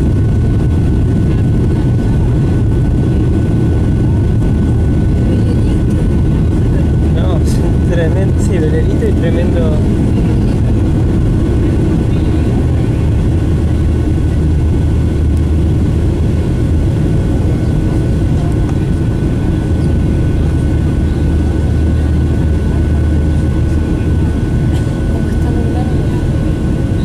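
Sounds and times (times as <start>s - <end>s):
jet cabin engine drone: 0.0s - 27.0s.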